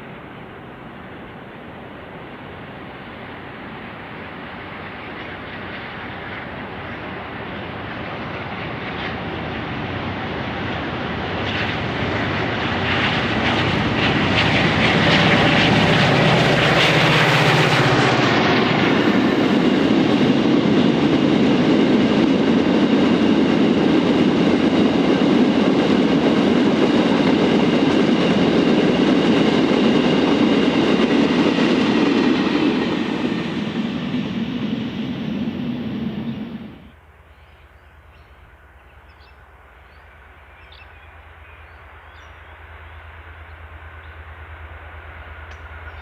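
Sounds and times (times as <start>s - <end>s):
diesel locomotive engine: 0.0s - 46.0s.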